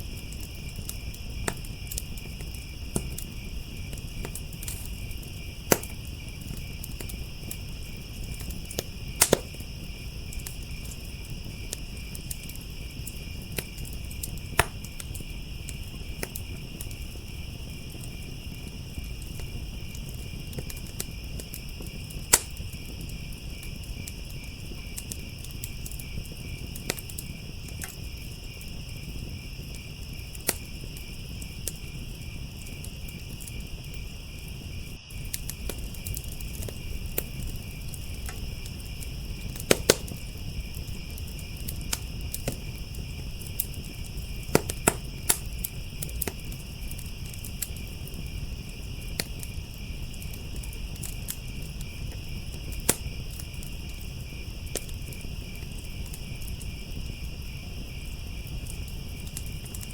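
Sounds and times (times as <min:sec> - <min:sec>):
crickets trilling: 0:00.0 - 0:59.9
wood fire crackling and popping: 0:00.0 - 0:59.9.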